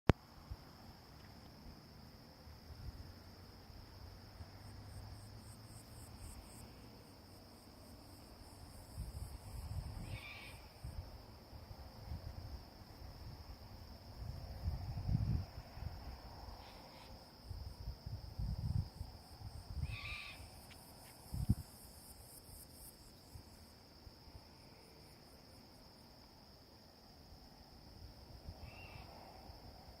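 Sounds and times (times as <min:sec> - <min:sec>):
night insects trilling: 0:00.2 - 0:30.0.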